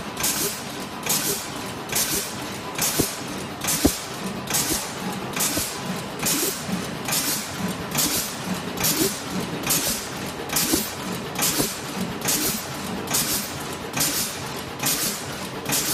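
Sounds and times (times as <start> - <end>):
machine mechanical clatter: 0.0 - 15.9.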